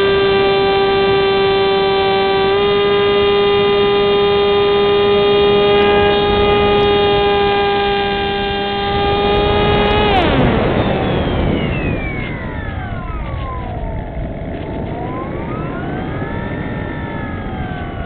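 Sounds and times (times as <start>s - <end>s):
electric motor and propeller whining: 0.0s - 18.0s.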